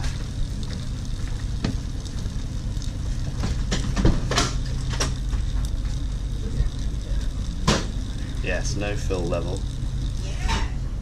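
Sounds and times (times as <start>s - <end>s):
hot water pouring into cup: 0.0s - 10.4s.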